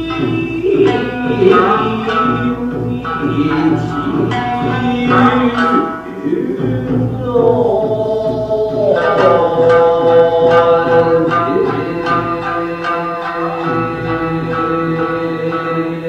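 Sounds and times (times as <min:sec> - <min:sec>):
person singing sliding notes: 0:00.0 - 0:16.0
plucked shamisen notes: 0:00.0 - 0:16.0.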